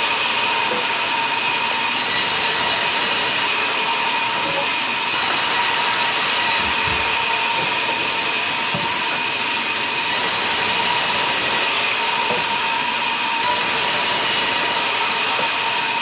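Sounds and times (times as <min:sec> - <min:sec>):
band saw whining: 0:00.0 - 0:16.0.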